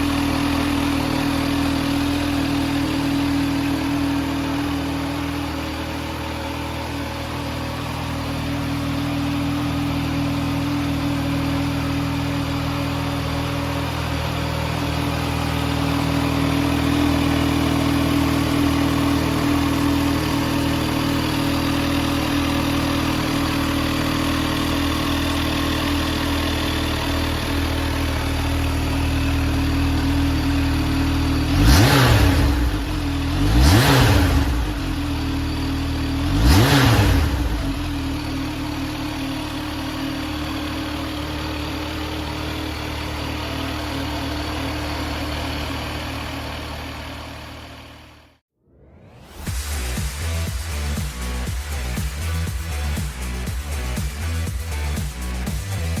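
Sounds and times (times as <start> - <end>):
motorcycle engine idling and revving: 0.0 - 48.4, 49.1 - 56.0.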